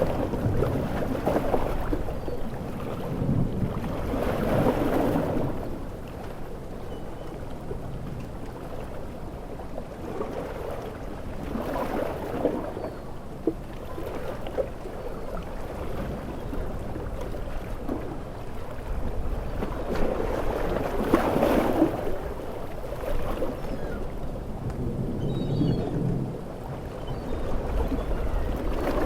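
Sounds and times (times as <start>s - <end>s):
ocean waves washing on shore: 0.0s - 29.0s.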